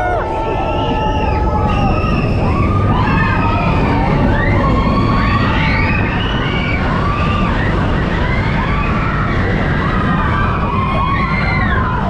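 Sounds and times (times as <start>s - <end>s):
passengers screaming: 0.0s - 12.0s
ride vehicle rumble: 0.0s - 12.0s.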